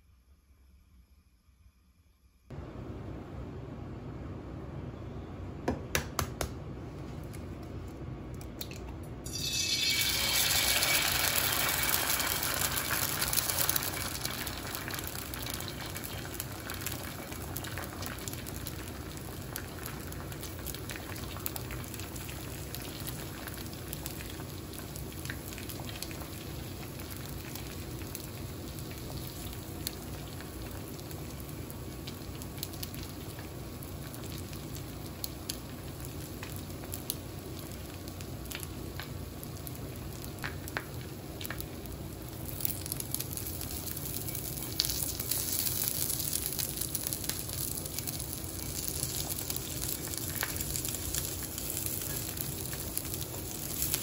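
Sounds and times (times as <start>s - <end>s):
small crackles of frying: 8.4s - 54.0s
frying sizzle in skillet: 9.2s - 54.0s.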